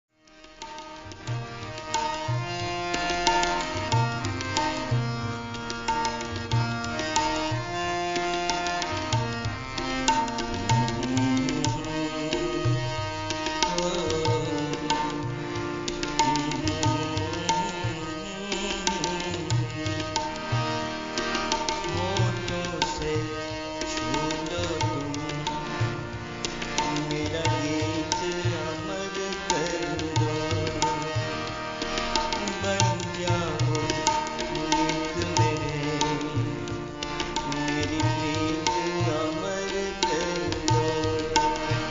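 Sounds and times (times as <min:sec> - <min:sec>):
tabla drum rhythm: 0:00.2 - 0:41.9.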